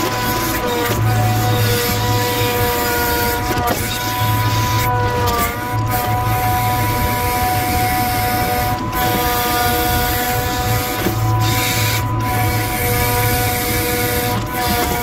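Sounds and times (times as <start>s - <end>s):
hydraulic crane whine: 0.0s - 15.0s.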